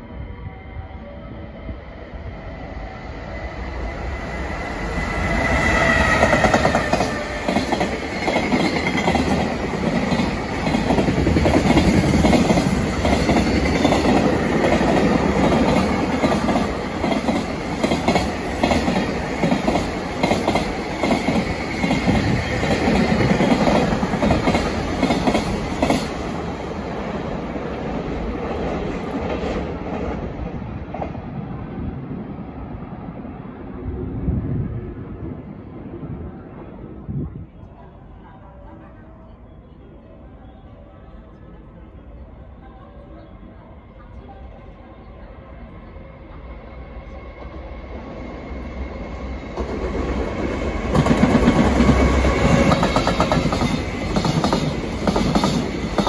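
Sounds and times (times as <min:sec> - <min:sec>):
freight train passing: 0:00.0 - 0:56.0.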